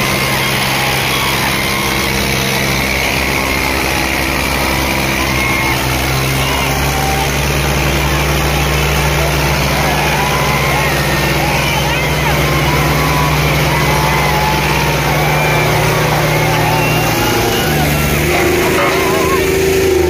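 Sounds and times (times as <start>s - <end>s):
tractor engines labouring: 0.0s - 20.0s.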